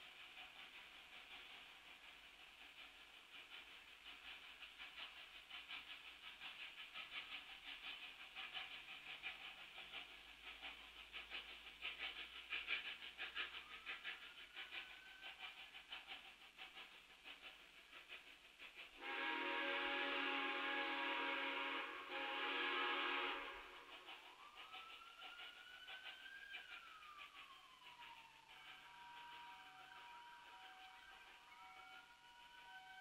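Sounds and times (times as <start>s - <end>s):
distant steam locomotive chuffs: 0.0s - 33.0s.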